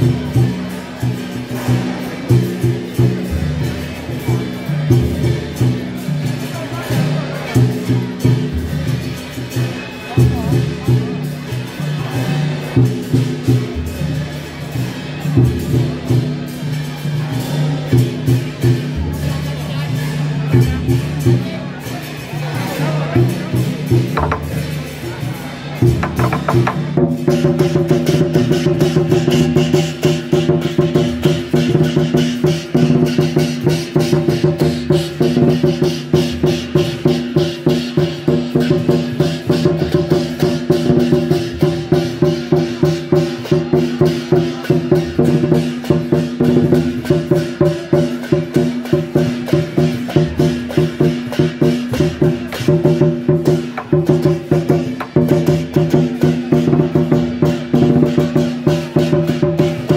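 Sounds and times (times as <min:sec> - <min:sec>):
procession music with percussion: 0:00.0 - 0:59.9.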